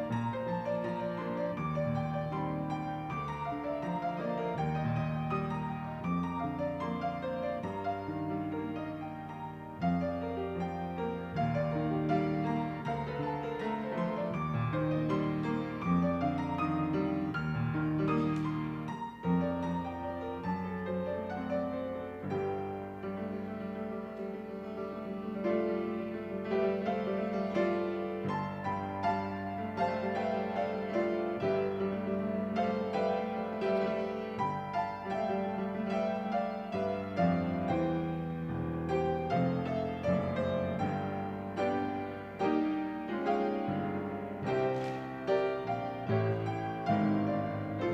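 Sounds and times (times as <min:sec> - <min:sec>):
slow piano piece: 0:00.0 - 0:47.9.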